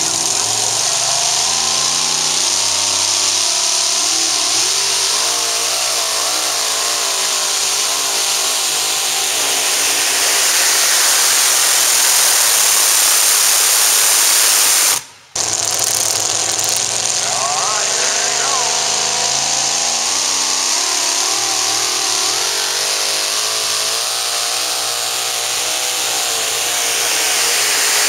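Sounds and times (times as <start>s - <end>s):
loud high hiss: 0.0s - 28.0s
truck engine at full throttle: 0.0s - 28.0s.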